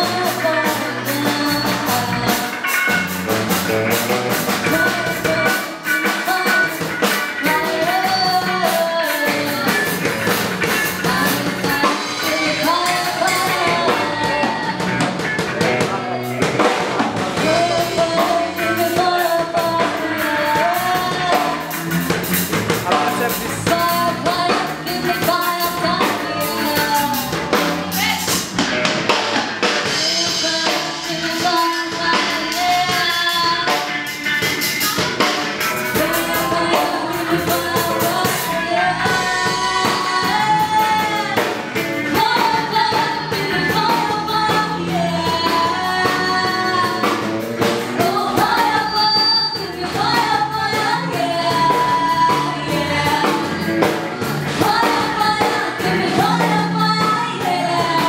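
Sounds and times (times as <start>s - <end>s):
woman singing into a microphone: 0.0s - 3.0s, 4.4s - 22.0s, 22.6s - 28.5s, 29.1s - 58.0s
accompanying music with drums: 0.0s - 58.0s.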